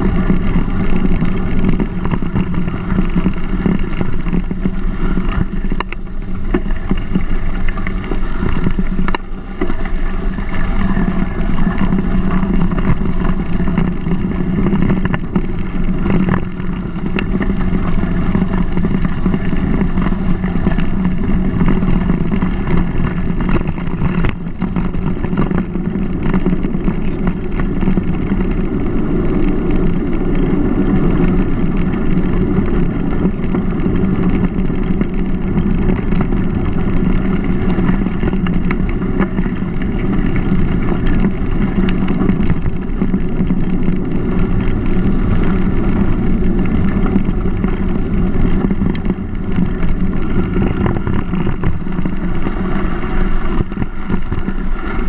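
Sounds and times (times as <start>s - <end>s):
bike clicks and rattles: 0.0s - 55.0s
bike tyres rolling on gravel: 0.0s - 55.0s
wind buffeting microphone: 0.0s - 55.0s.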